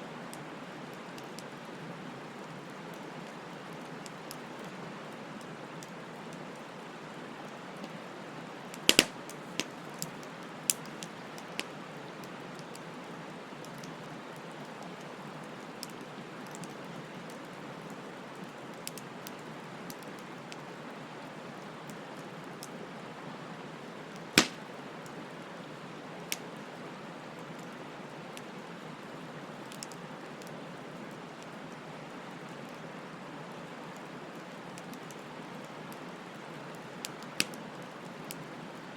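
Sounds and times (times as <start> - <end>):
bonfire crackling and popping: 0.3 - 23.1, 23.8 - 26.7, 27.3 - 32.8, 33.7 - 38.9.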